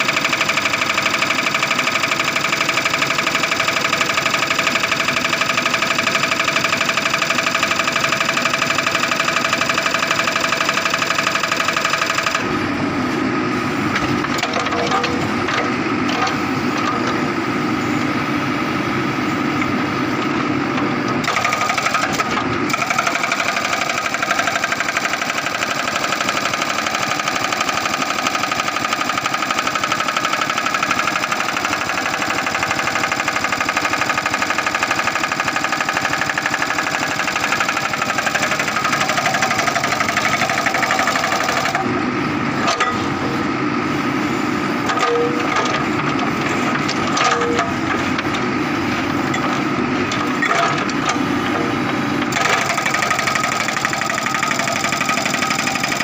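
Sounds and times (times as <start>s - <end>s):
hydraulic breaker pounding rock: 0.0s - 12.5s, 13.9s - 17.4s, 19.6s - 42.0s, 42.6s - 43.4s, 44.8s - 56.0s
diesel engine running: 0.0s - 56.0s.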